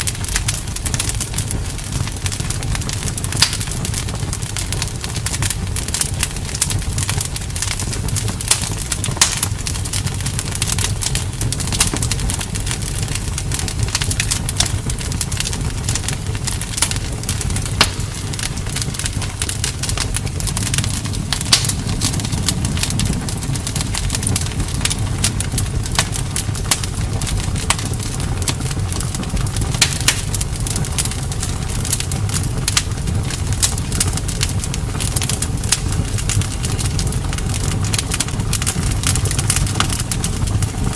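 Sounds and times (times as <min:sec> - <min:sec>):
bonfire crackling and popping: 0:00.0 - 0:40.9
low steady rumble: 0:00.0 - 0:40.9.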